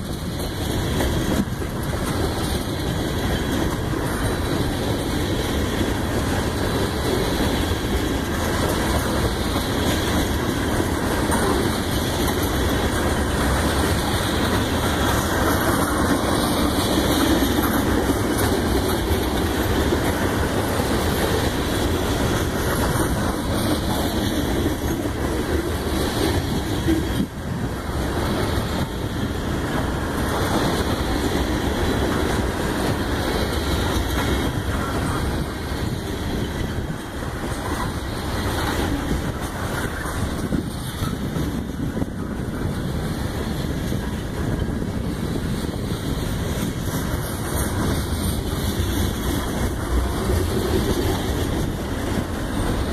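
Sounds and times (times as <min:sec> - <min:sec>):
freight train wheels clattering: 0:00.0 - 0:52.9.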